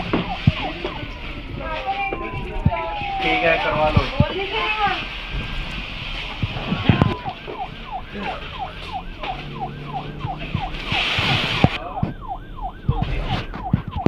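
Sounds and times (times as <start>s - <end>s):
fire alarm siren: 0.0s - 4.7s, 6.2s - 14.0s.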